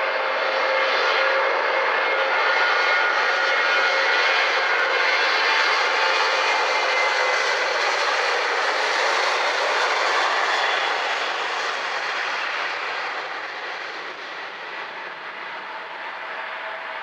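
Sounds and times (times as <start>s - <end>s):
jet engine rush: 0.1s - 17.0s.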